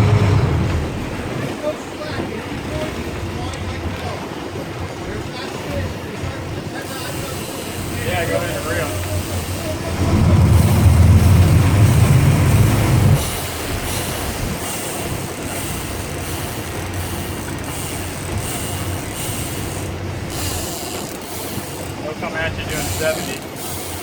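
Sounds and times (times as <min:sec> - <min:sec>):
boat engine rumbling: 0:00.0 - 0:24.0
wind and water rushing: 0:00.0 - 0:24.0.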